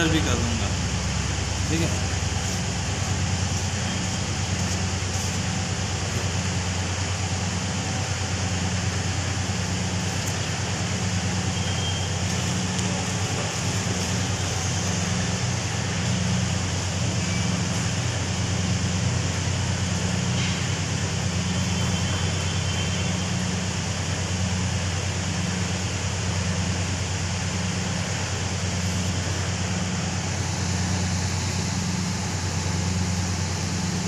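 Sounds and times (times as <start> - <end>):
low machinery hum: 0.0 - 34.0.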